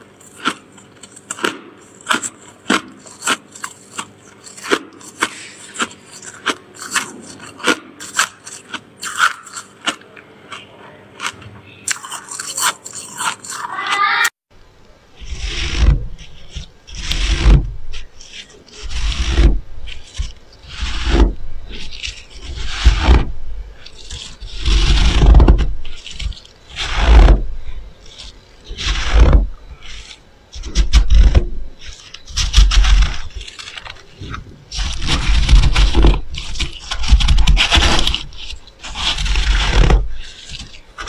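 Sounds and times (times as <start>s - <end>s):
hand scraping and crunching frost: 0.0s - 14.4s, 15.0s - 41.0s.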